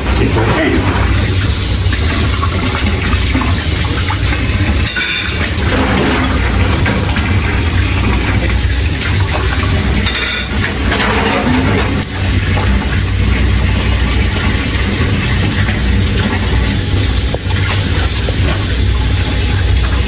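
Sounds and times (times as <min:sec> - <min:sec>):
dishwasher humming: 0:00.0 - 0:20.0.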